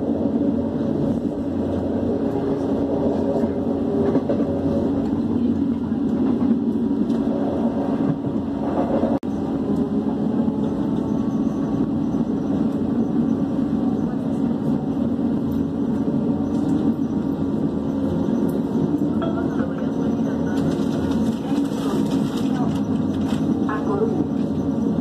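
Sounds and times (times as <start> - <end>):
train rumble and rolling noise: 0.0 - 25.0.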